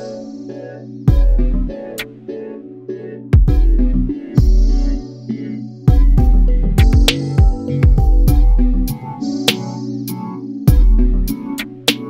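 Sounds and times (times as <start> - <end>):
chillwave electronic music: 0.0 - 12.0.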